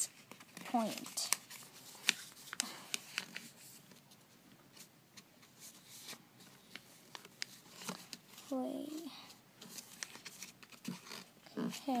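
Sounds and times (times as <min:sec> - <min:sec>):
paper rustling and creasing: 0:00.0 - 0:12.0.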